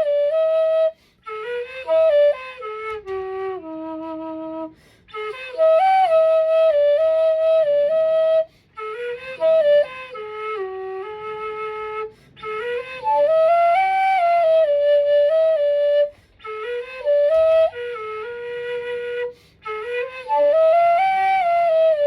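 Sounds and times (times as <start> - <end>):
solo bamboo flute melody: 0.0 - 22.0.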